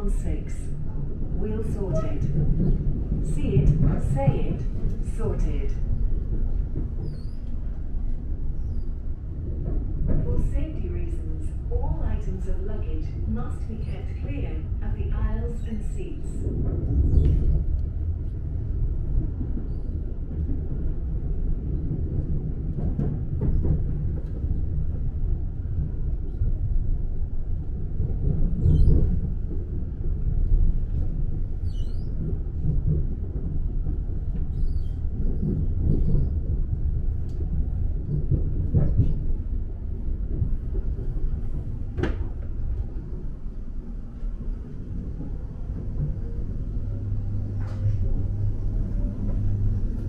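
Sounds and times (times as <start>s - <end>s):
train rumbling: 0.0s - 50.0s.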